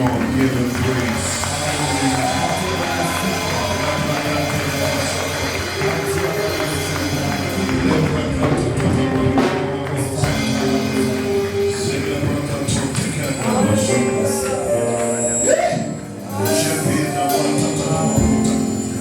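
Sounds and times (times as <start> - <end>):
gospel worship music: 0.0 - 19.0.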